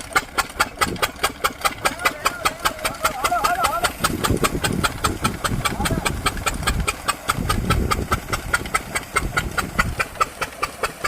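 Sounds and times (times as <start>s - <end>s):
diesel engine knocking: 0.0s - 11.0s.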